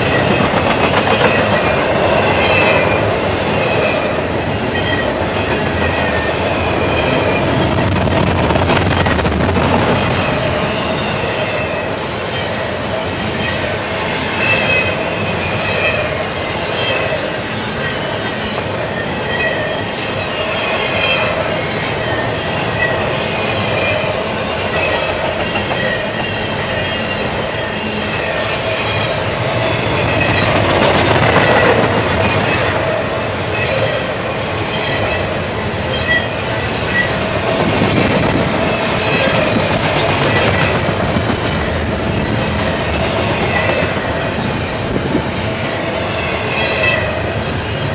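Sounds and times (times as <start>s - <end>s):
freight train rolling past: 0.0s - 47.9s
steel wheels rumbling on rails: 0.0s - 47.9s.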